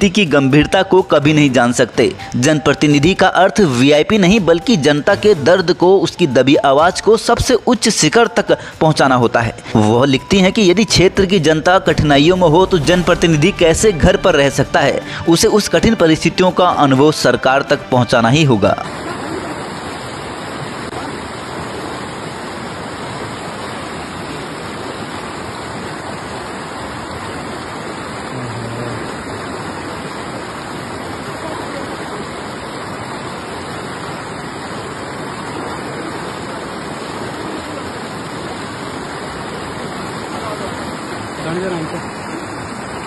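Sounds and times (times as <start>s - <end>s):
river rushing over rocks: 0.0s - 43.0s.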